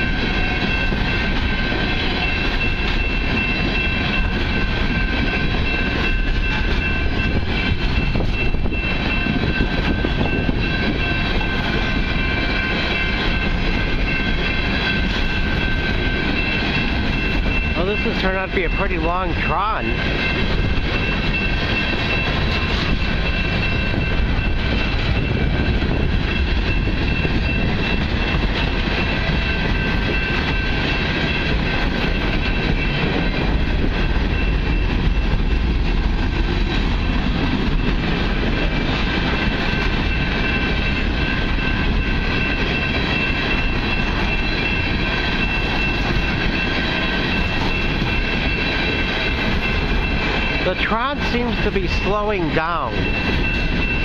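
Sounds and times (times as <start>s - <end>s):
high steady tone: 0.0s - 54.0s
train wheels rumbling on rail: 0.0s - 54.0s.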